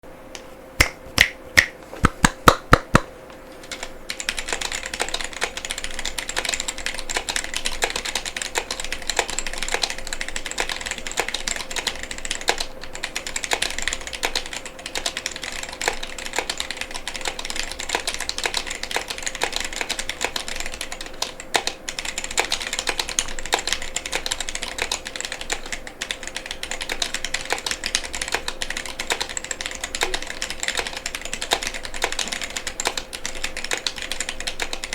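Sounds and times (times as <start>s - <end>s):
mechanical keyboard typing: 2.2s - 34.9s.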